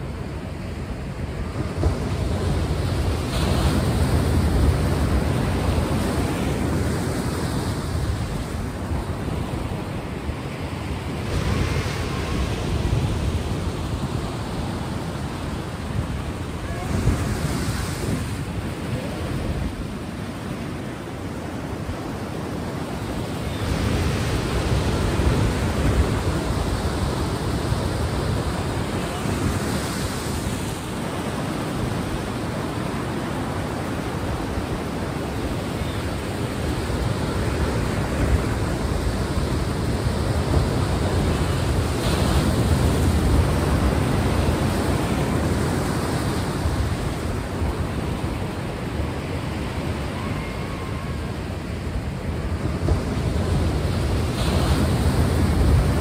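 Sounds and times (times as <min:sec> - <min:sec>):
ocean waves on shore: 0:00.0 - 0:56.0.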